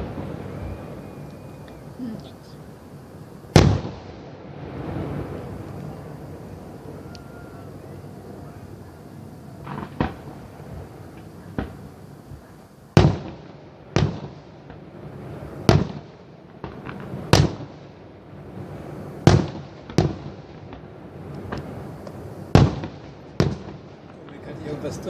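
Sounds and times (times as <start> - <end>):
fireworks banging: 0.0 - 25.0.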